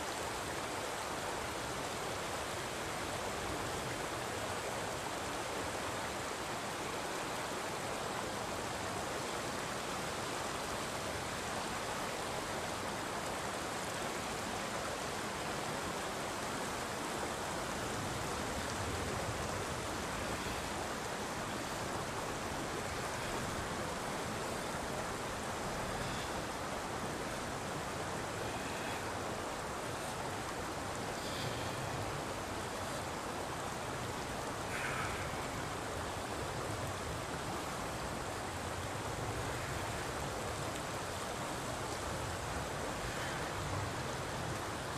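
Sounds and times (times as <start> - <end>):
stream flowing over stones: 0.0 - 44.9.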